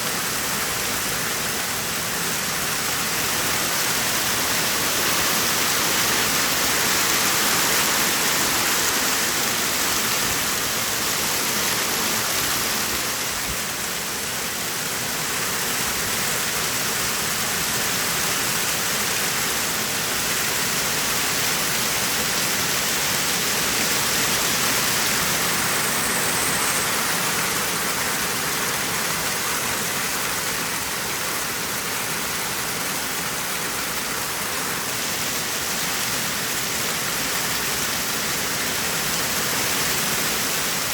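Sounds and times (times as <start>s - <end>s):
hail and heavy rain hissing: 0.1s - 40.9s.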